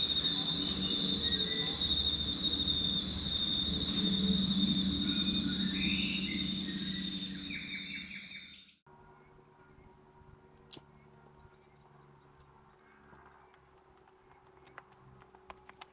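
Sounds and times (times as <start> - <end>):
high insect drone: 0.0 - 14.3
low hum: 0.0 - 15.4
faint insect chirps: 0.0 - 15.8
birds chirping: 0.0 - 15.9.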